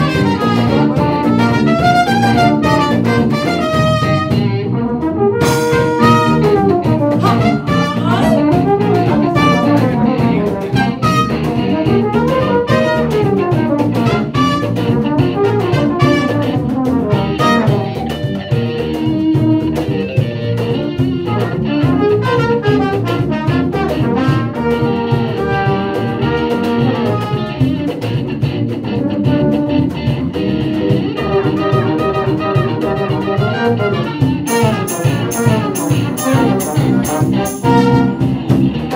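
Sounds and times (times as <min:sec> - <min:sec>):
trumpet: 0:00.0 - 0:18.1, 0:21.2 - 0:27.9, 0:29.0 - 0:30.0, 0:31.2 - 0:38.7
trombone: 0:00.0 - 0:18.2, 0:20.9 - 0:28.0, 0:28.9 - 0:38.9
bass guitar: 0:00.0 - 0:38.9
congas: 0:00.0 - 0:38.9
electric guitar: 0:00.0 - 0:38.9
tuba: 0:00.0 - 0:38.9.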